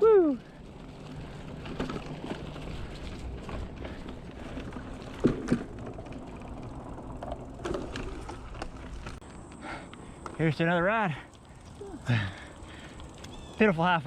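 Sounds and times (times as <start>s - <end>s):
bike tyres on dirt: 0.0s - 14.0s.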